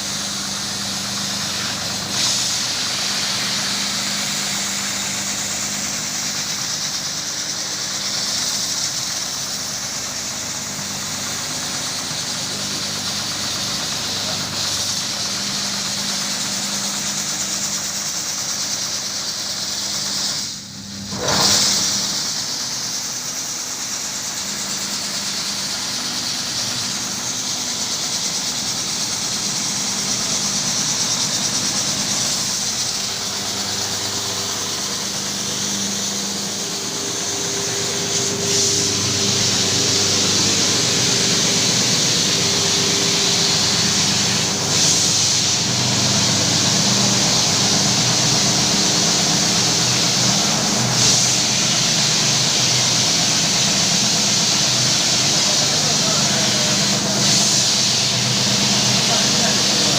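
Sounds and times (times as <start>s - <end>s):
carpet washing machine running: 0.0s - 59.9s.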